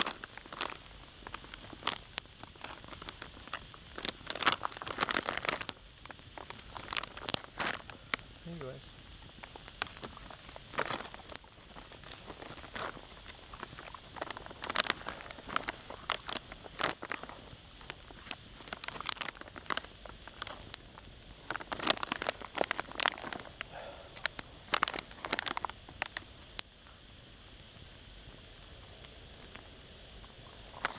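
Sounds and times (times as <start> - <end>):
plastic bag crinkling: 0.0 - 26.6, 30.3 - 30.9
campfire popping: 0.0 - 30.9.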